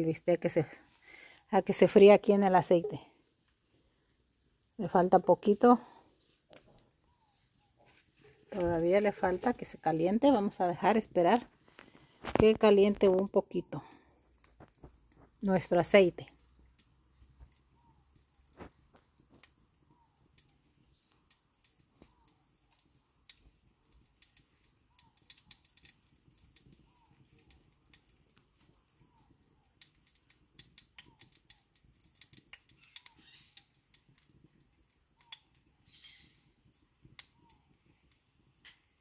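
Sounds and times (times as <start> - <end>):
oil crackling in a pot: 0.0 - 39.0.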